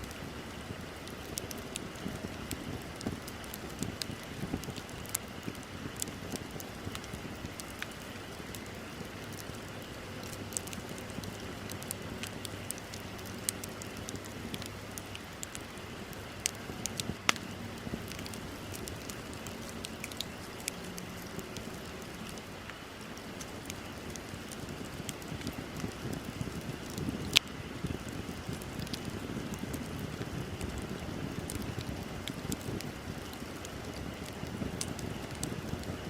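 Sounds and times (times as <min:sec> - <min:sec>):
bonfire crackling and popping: 0:00.0 - 0:36.0
fire hissing: 0:00.0 - 0:36.0.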